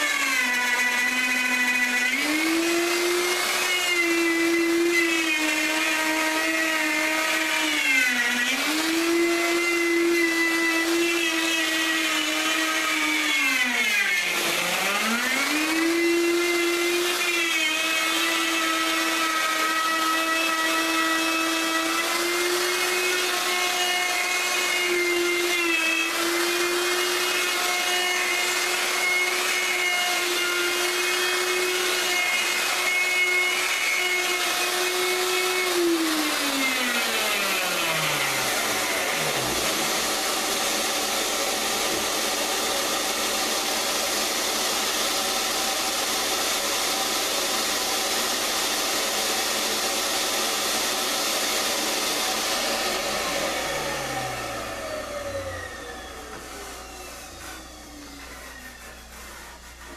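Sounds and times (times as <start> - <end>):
wood router whining: 0.0 - 59.9.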